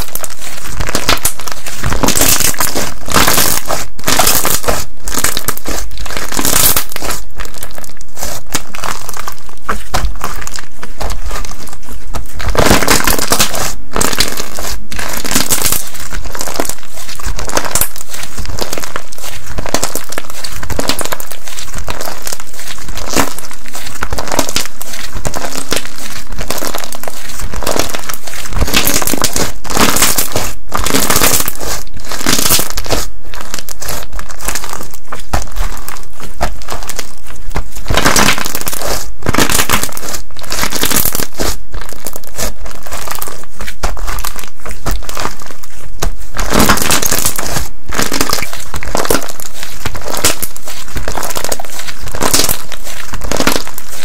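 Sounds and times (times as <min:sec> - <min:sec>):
slime crackling and popping: 0:00.0 - 0:54.0.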